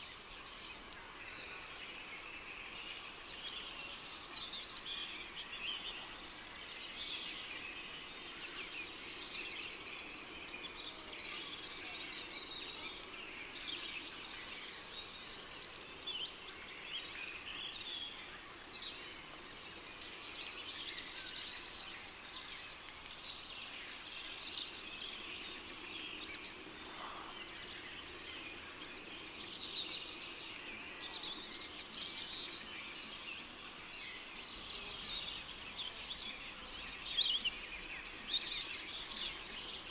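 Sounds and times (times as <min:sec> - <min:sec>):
other insects: 0:00.0 - 0:39.9.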